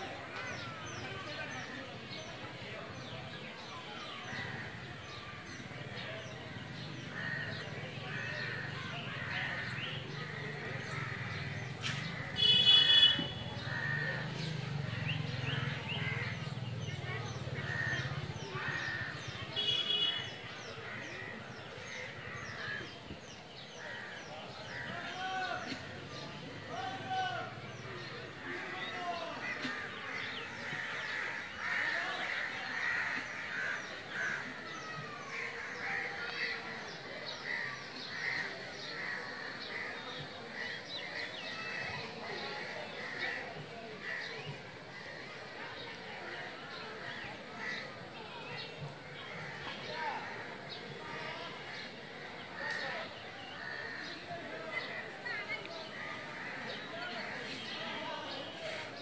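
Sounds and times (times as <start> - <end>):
birds chirping and squawking: 4.2 - 46.4, 49.0 - 59.0.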